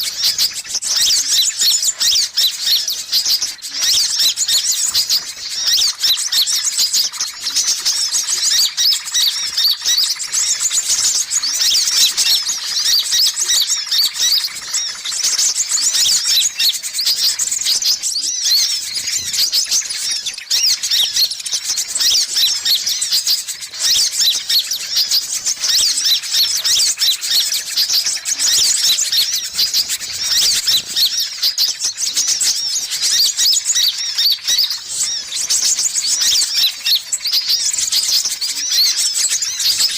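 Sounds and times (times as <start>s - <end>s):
sunbird chirps and twitters: 0.0s - 39.9s.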